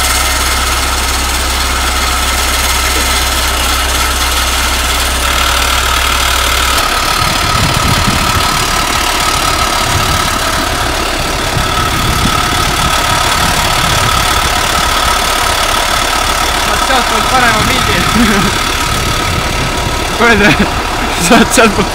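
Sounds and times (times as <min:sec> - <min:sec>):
tractor diesel engine idling: 0:00.0 - 0:21.9.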